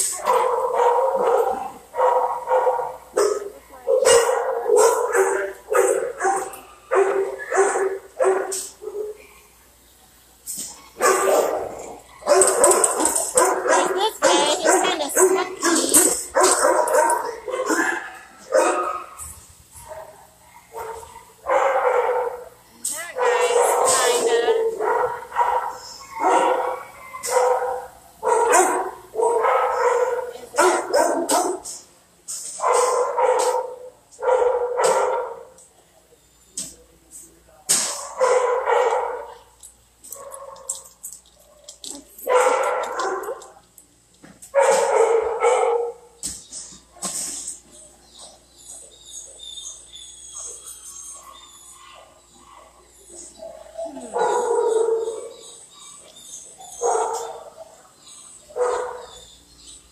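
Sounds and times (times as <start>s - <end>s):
dogs barking: 0.0s - 9.6s, 10.6s - 31.9s, 32.5s - 35.7s, 37.7s - 43.7s, 44.5s - 59.9s.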